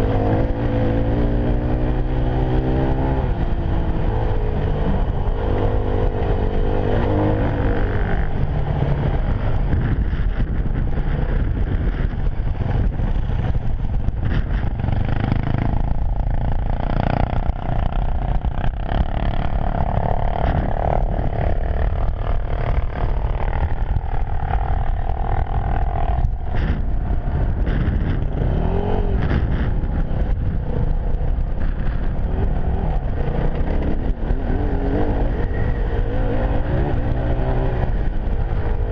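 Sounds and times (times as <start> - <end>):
motorcycle engine revving: 0.0 - 38.9
wind rumble on microphone: 0.0 - 38.9.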